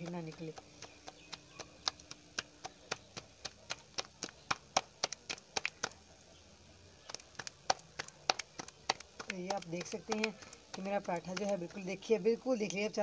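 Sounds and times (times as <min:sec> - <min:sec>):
hands patting dough: 0:00.0 - 0:06.1, 0:07.0 - 0:13.0.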